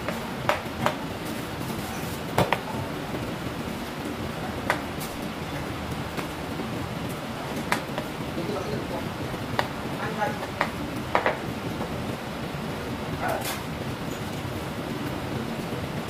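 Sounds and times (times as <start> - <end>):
kitchen background noise: 0.0 - 16.0.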